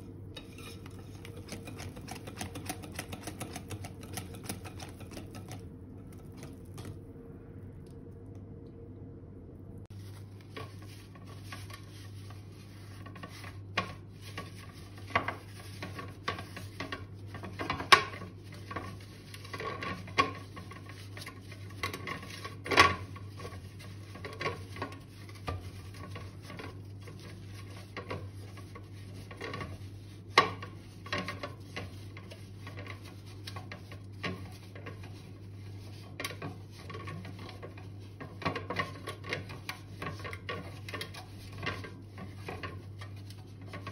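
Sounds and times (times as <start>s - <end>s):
paper towel rubbing pan: 0.0s - 7.0s, 9.9s - 43.9s.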